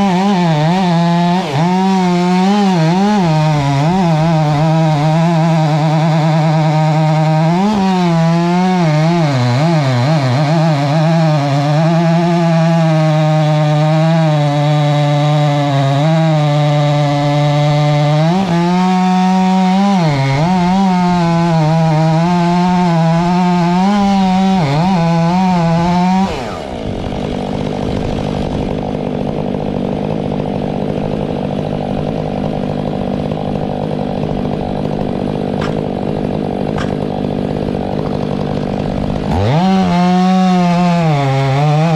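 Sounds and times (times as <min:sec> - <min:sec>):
chainsaw cutting into tree trunk: 0:00.0 - 0:41.9
rough noisy saw: 0:00.0 - 0:41.9.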